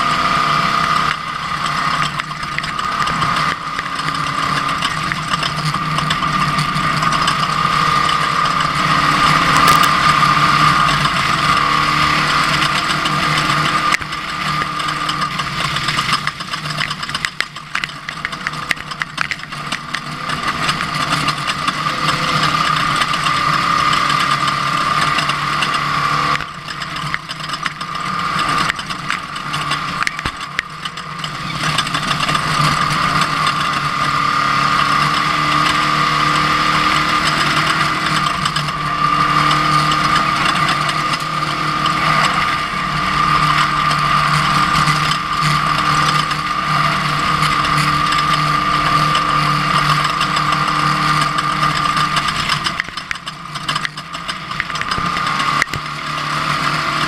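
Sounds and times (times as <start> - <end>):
rattling and clattering: 0.0 - 57.0
truck engine drone with whine: 0.0 - 57.0.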